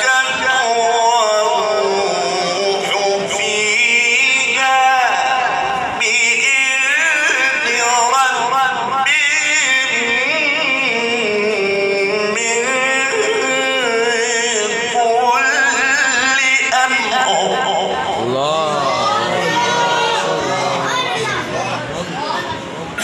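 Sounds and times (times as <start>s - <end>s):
man reciting melodically: 0.0s - 22.1s.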